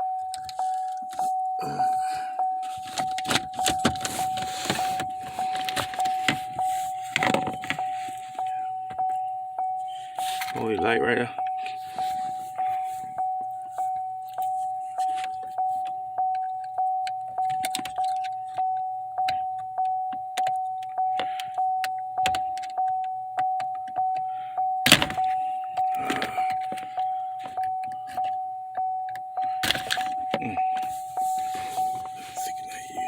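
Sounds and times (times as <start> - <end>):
car warning chime dinging: 0.0 - 33.0.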